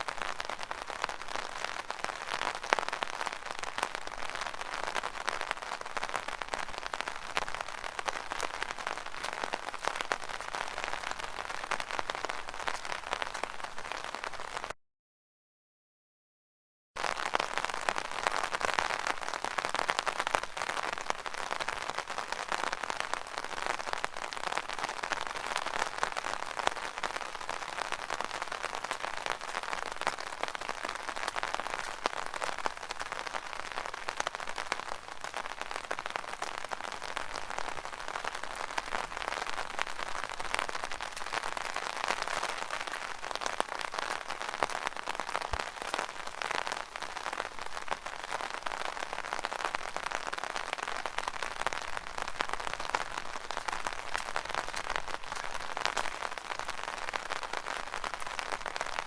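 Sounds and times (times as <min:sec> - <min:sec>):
rain drumming on an umbrella: 0:00.0 - 0:14.8, 0:17.0 - 0:59.0.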